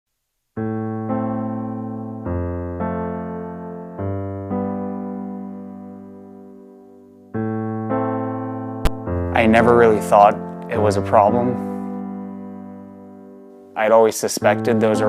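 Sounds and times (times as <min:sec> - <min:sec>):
electric piano chords: 0:00.6 - 0:15.0.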